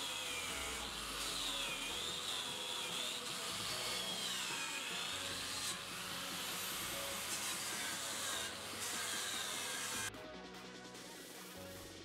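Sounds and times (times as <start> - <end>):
power tool whining on steel: 0.0 - 10.1.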